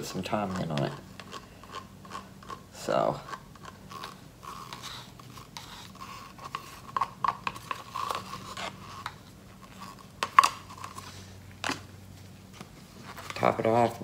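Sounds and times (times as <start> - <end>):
plastic cups scraping: 0.0 - 11.9.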